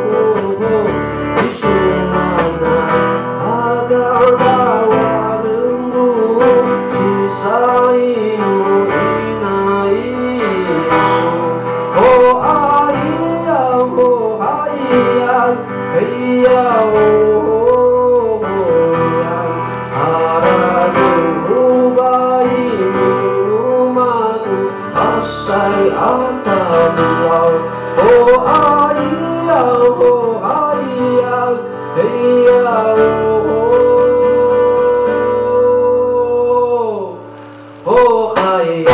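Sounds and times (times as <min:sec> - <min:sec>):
guitar accompaniment: 0:00.0 - 0:38.9
man singing: 0:00.0 - 0:38.9.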